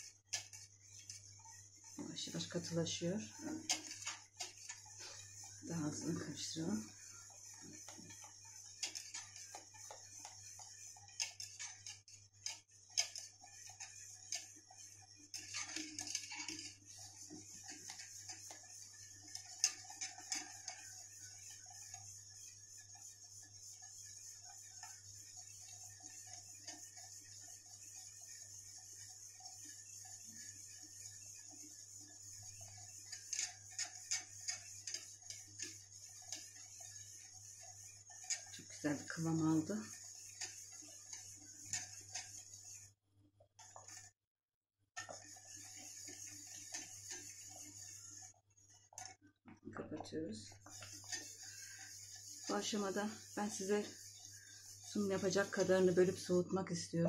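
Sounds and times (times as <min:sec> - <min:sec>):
whisk scraping a metal pot: 0:00.0 - 0:43.0, 0:43.6 - 0:44.2, 0:44.9 - 0:56.8.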